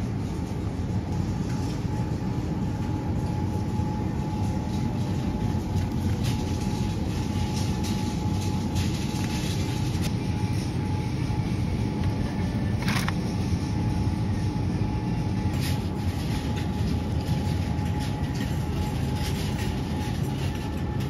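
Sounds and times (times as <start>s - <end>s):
faint steady whine: 0.0s - 21.0s
refrigerator hum and rumble: 0.0s - 21.0s.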